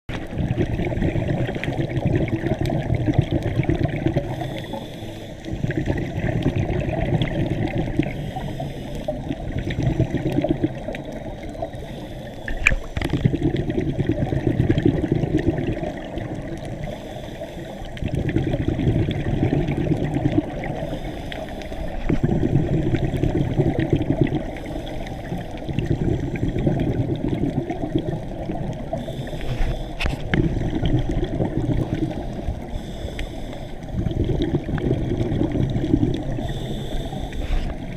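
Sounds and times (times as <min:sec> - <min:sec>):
diver exhaling gurgling bubbles: 0:00.1 - 0:37.9.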